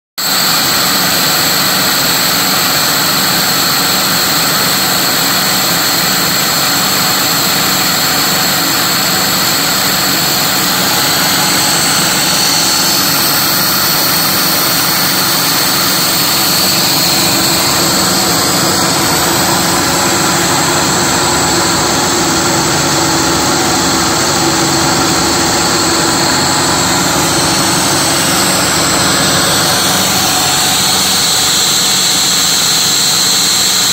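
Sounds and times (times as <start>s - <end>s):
high whine: 0.2s - 33.9s
milling machine cutting metal: 0.3s - 33.9s.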